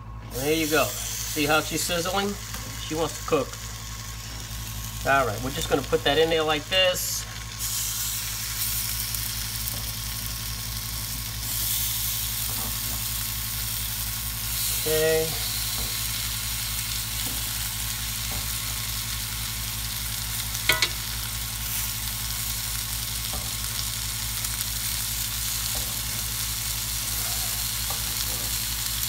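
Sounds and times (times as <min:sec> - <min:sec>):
dough sizzling in oil: 0:00.4 - 0:29.0.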